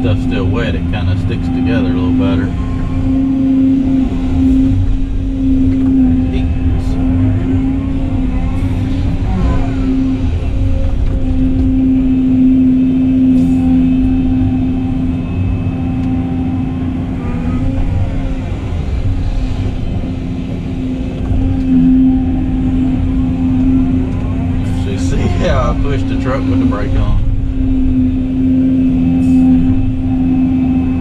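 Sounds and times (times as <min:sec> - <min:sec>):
excavator engine and hydraulics: 0:00.0 - 0:31.0.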